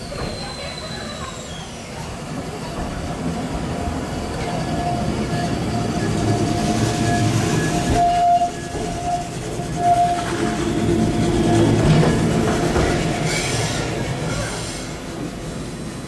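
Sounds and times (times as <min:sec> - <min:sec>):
tram wheel and motor rumble: 0:00.0 - 0:16.0.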